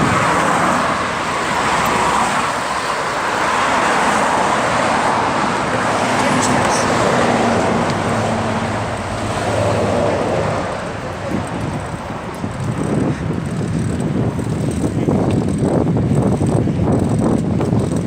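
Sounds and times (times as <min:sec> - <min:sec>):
motor vehicle engine hum: 0:00.0 - 0:18.0
rough road noise: 0:00.0 - 0:18.0
wind noise on microphone: 0:00.0 - 0:18.0.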